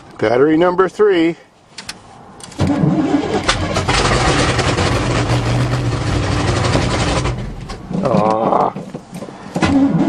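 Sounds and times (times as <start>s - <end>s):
truck engine starting and running: 1.8s - 10.0s.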